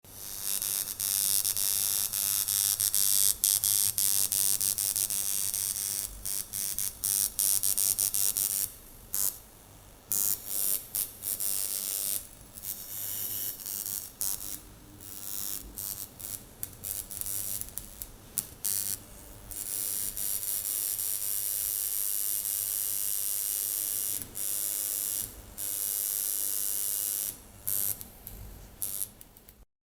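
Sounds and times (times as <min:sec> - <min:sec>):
tattoo machine buzzing: 0:00.1 - 0:29.6.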